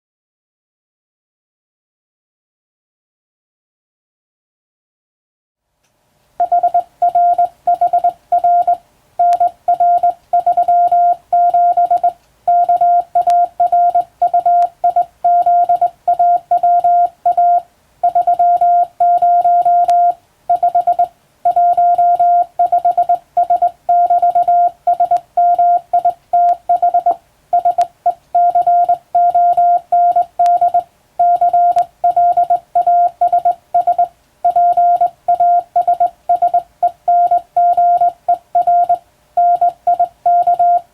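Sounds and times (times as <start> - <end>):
morse code beeps: 6.4 - 40.9.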